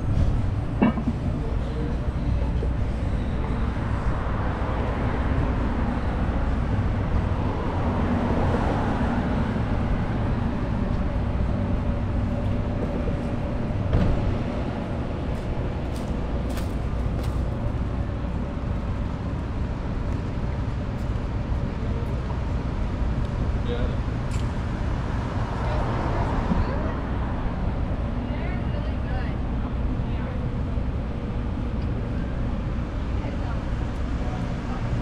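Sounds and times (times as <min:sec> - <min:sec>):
low rumble of car engines: 0:00.0 - 0:35.0.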